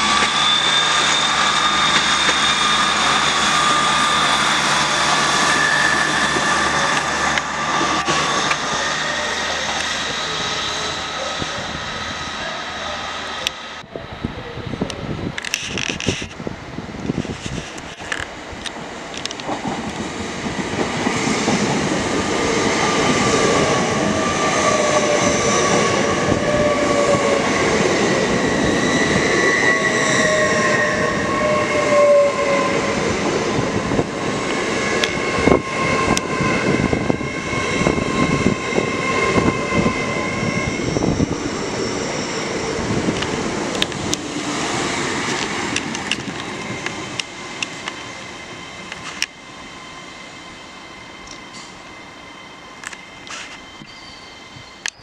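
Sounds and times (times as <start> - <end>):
train rolling rumble: 0.0 - 55.0
train whining tones: 0.0 - 55.0.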